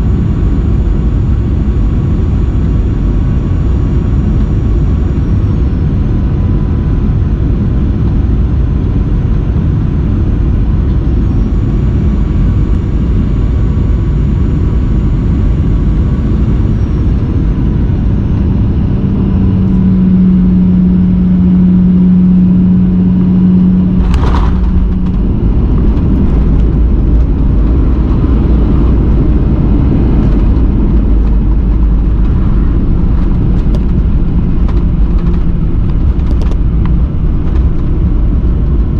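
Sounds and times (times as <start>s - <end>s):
jet engines and airflow roar: 0.0s - 38.9s.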